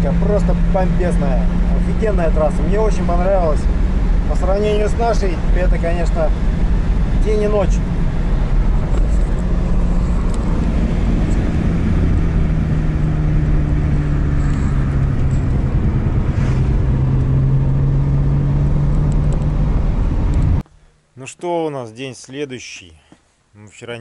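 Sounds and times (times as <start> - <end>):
road and tyre rumble: 0.0 - 20.8
car engine hum: 0.0 - 21.0.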